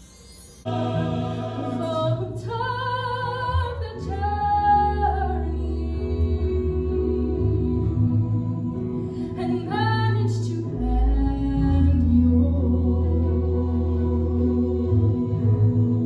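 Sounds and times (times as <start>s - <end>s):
choral harmony: 0.6s - 16.0s
woman singing with vibrato: 0.7s - 16.0s.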